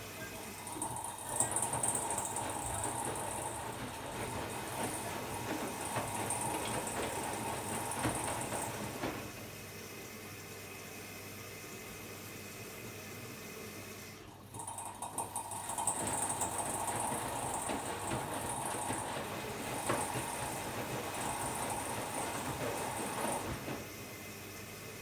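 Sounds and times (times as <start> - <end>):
washer-dryer running: 0.0 - 25.0.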